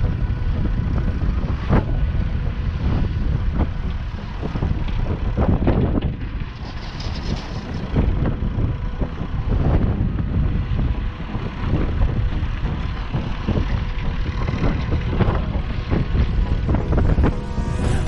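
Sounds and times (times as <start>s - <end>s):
tractor diesel engine rumbling: 0.0s - 18.0s.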